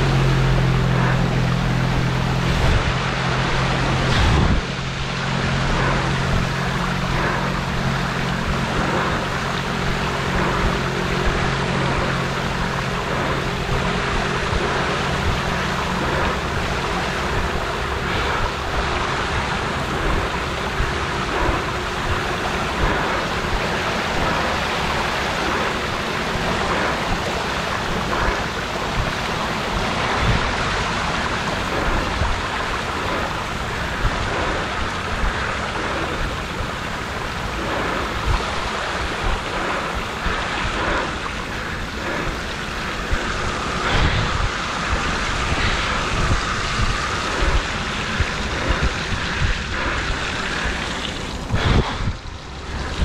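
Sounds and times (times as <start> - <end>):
low hum: 0.0 - 53.0
wheels splashing through water: 0.0 - 53.0.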